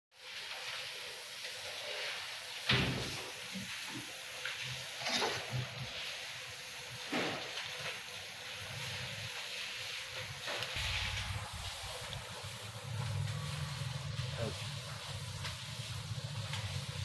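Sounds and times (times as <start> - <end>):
steady hiss: 0.2 - 17.0.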